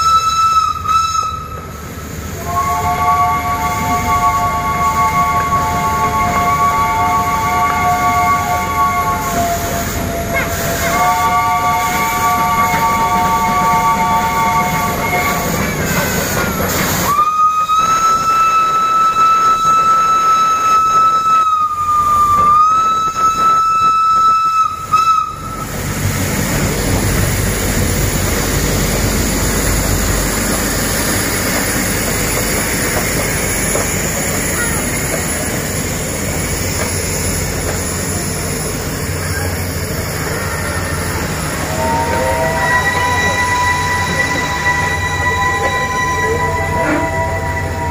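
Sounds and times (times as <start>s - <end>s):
steam locomotive whistle: 0.0s - 27.6s, 28.2s - 47.9s
steam locomotive hissing and rumbling: 0.0s - 47.9s.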